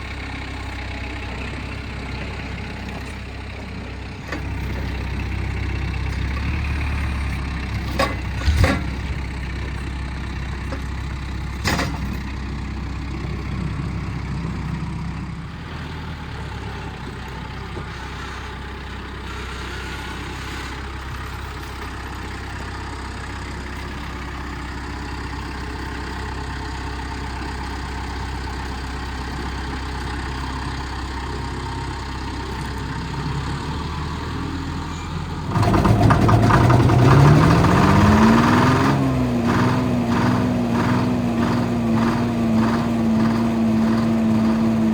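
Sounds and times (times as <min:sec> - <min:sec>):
heavy engine running: 0:00.0 - 0:44.9.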